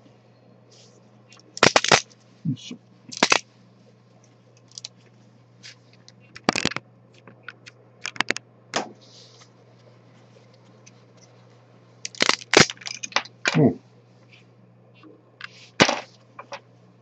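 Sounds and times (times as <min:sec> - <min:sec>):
faint steady low hum: 0:00.0 - 0:17.0.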